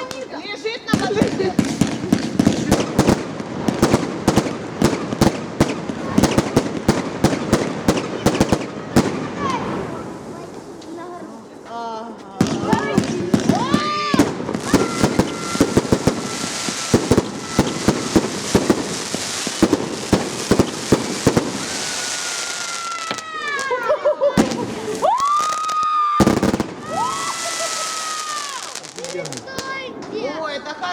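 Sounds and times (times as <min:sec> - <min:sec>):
fireworks bangs: 0:00.0 - 0:11.6, 0:12.4 - 0:30.4
fireworks crackling: 0:00.0 - 0:30.9.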